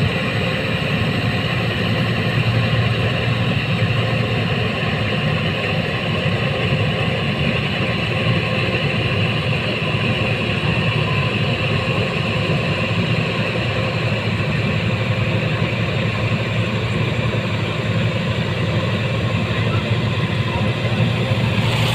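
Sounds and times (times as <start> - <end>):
combine harvester engine running: 0.0 - 21.9.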